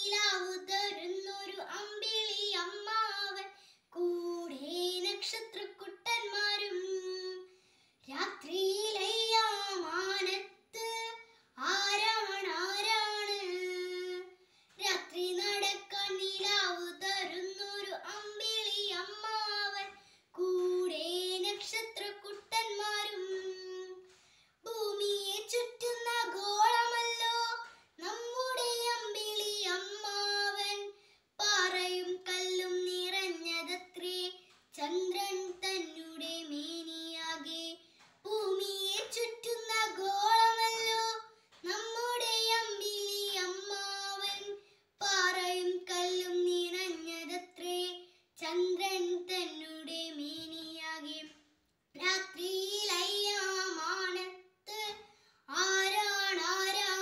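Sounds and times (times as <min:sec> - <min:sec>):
girl singing unaccompanied: 0:00.0 - 0:57.0.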